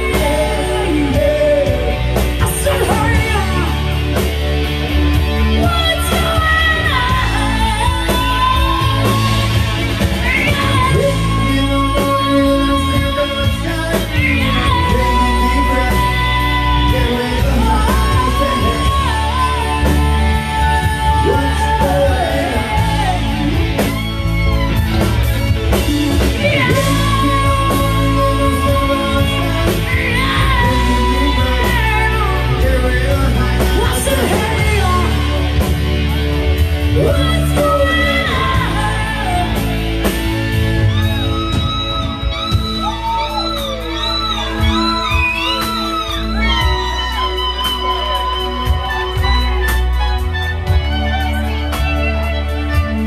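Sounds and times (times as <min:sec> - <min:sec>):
woman singing: 0:00.0 - 0:04.0, 0:05.2 - 0:24.2, 0:25.6 - 0:36.2, 0:36.8 - 0:49.2
live rock band playing: 0:00.0 - 0:53.0.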